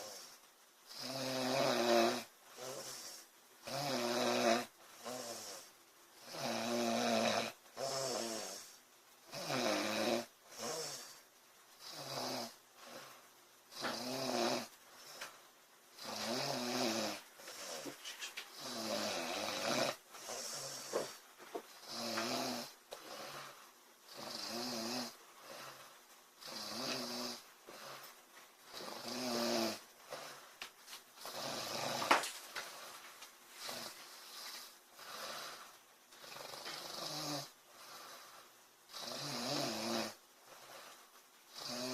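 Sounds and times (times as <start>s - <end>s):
woman snoring: 0.9s - 11.2s, 11.8s - 15.3s, 16.0s - 21.2s, 21.8s - 28.1s, 28.7s - 30.4s, 31.2s - 32.2s, 33.6s - 41.9s.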